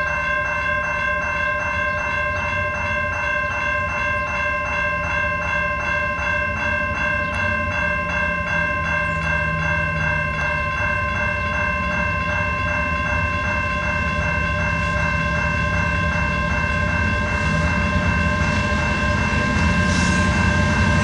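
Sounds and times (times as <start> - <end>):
crossing warning bell ringing: 0.0 - 21.0.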